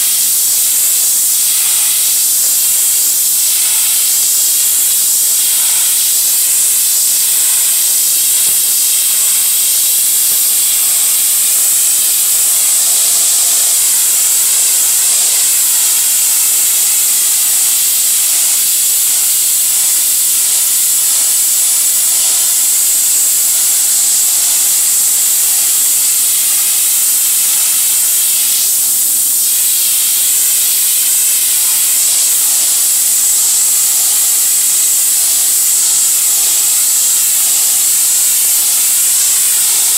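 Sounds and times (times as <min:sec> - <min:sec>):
pressure washer spraying brick: 0:00.0 - 0:39.9.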